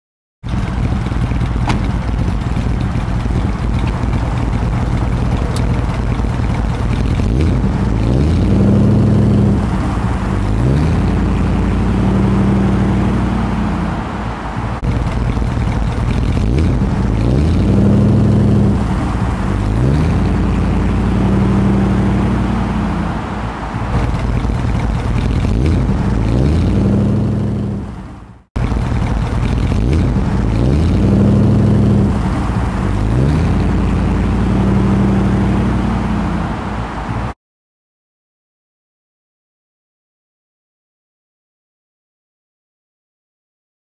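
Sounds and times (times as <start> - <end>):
car engine revving: 0.4 - 37.4.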